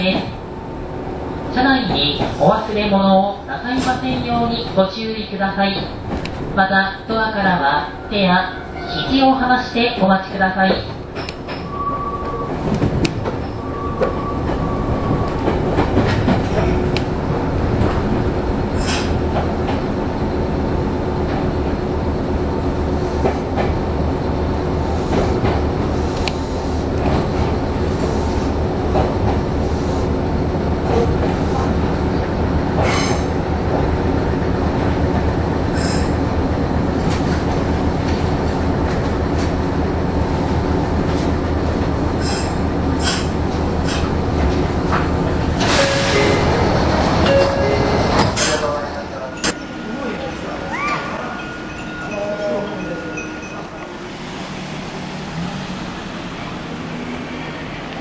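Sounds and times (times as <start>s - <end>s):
train wheels rolling on track: 0.0s - 7.6s, 8.4s - 58.0s.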